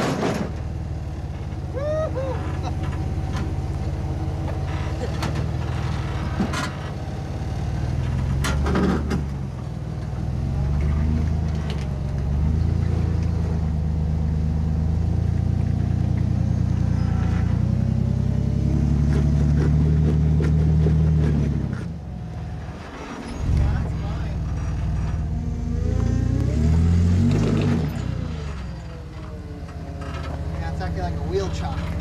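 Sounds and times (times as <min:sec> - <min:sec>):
engine revving under load: 0:01.7 - 0:32.0.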